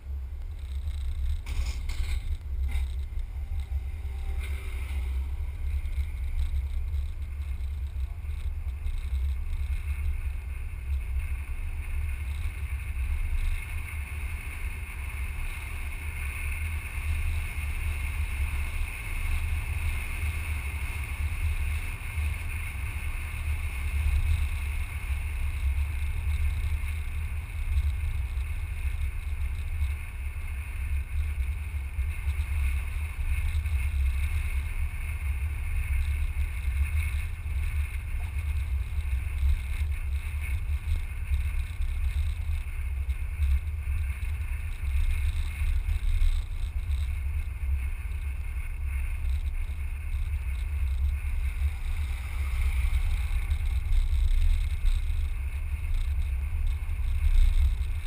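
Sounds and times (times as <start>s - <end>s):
tyre and engine noise: 0.0s - 58.0s.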